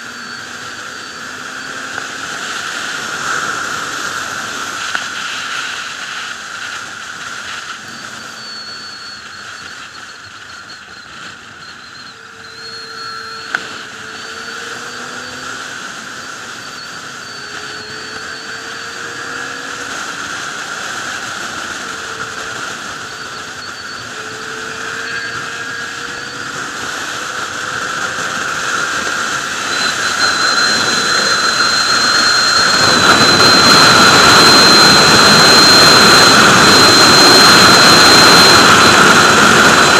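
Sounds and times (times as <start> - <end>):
motorcycle engine drone: 0.0 - 39.9
wind noise on microphone: 0.0 - 39.9.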